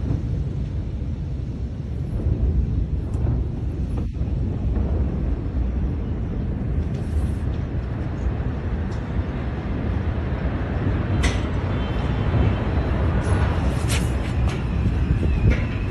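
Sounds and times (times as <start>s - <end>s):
low rumbling noise: 0.0s - 15.9s.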